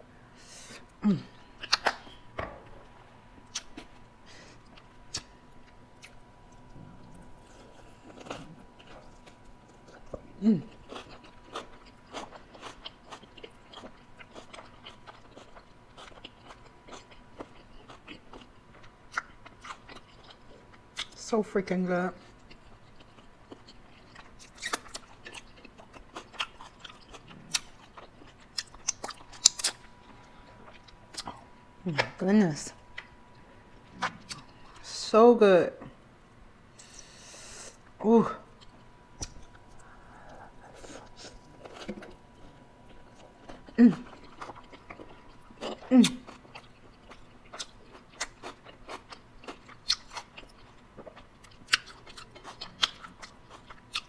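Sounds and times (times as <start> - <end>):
person chewing crunchy food: 0.8 - 21.2, 22.3 - 31.6, 36.8 - 54.0.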